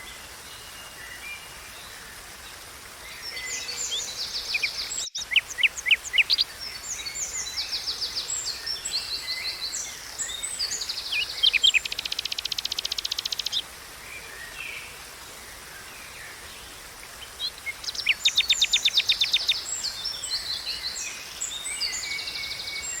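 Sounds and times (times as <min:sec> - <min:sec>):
flowing water: 0:00.0 - 0:23.0
songbirds chirping and trilling: 0:03.2 - 0:23.0.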